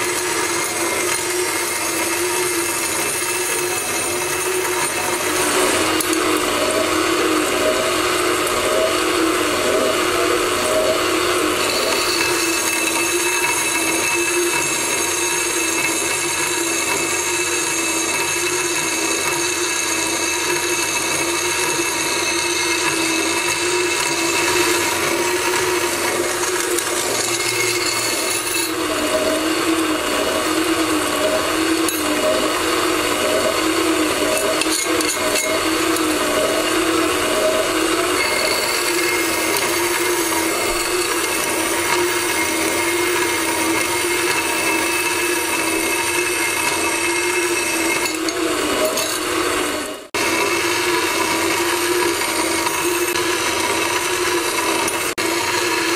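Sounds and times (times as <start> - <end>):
band saw cutting steel: 0.0 - 55.9.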